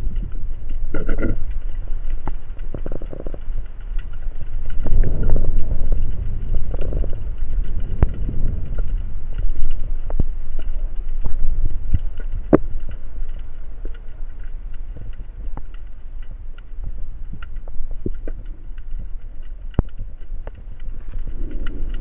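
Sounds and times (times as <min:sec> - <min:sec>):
faint underwater clicks: 0:00.0 - 0:22.0
underwater rumble of water movement: 0:00.0 - 0:22.0.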